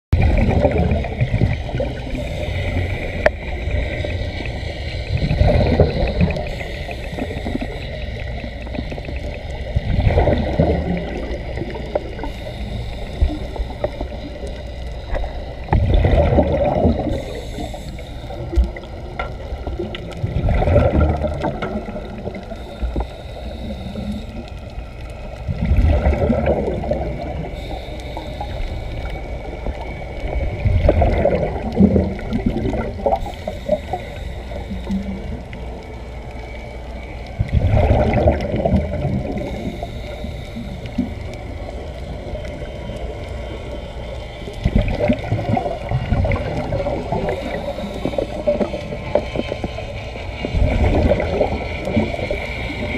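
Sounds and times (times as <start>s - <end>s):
underwater air bubbling: 0.1s - 52.9s.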